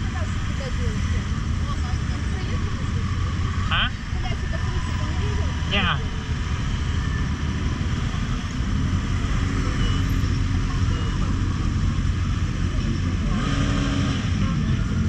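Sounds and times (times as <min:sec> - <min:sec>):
motorcycle engines rumbling past: 0:00.0 - 0:15.0.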